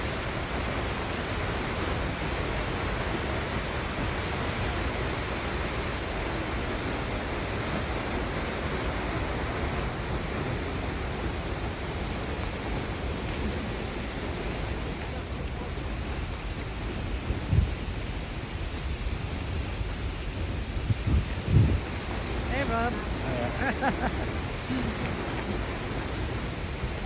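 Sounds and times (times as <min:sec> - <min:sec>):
waterfall rushing: 0:00.0 - 0:18.3, 0:20.2 - 0:27.0.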